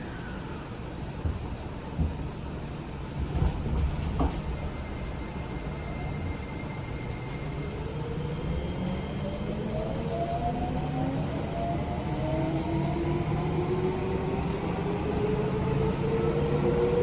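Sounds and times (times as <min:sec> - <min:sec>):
train interior rumble: 0:00.4 - 0:17.0.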